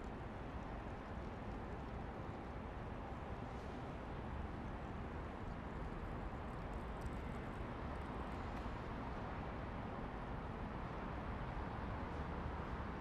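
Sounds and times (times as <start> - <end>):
city traffic hum: 0.0 - 13.0.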